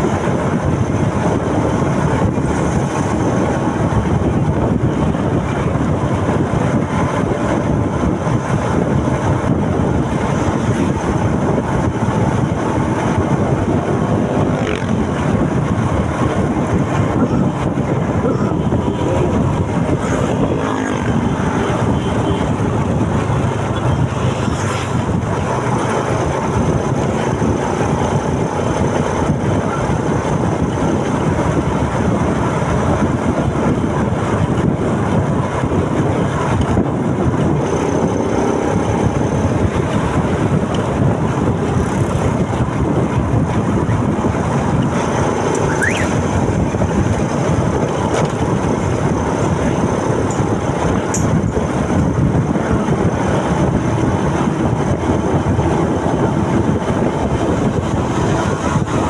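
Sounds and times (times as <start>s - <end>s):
motorcycle engine: 0.0s - 59.0s
wind rushing over microphone: 0.0s - 59.0s.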